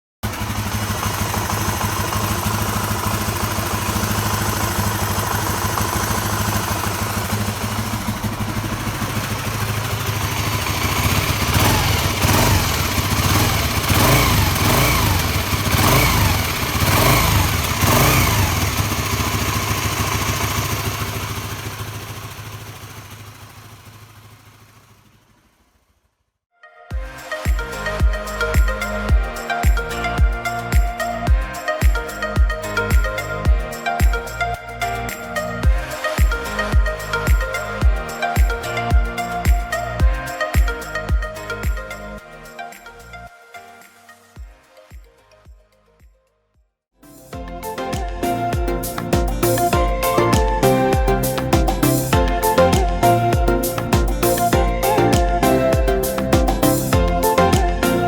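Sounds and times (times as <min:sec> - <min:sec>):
motorcycle engine idling and revving: 0:00.2 - 0:26.2, 0:27.7 - 0:42.0, 0:47.4 - 0:58.0.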